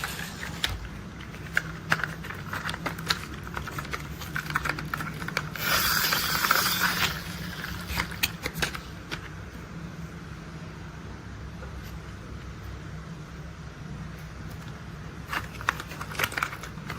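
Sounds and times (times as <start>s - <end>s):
faint low hum: 0.0s - 16.9s.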